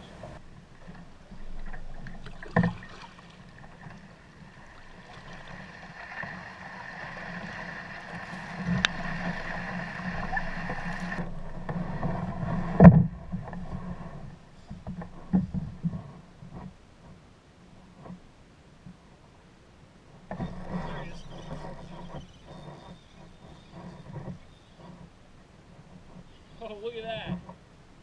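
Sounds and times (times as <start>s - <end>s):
paddle swishing through water: 0.0s - 18.2s, 20.1s - 27.9s.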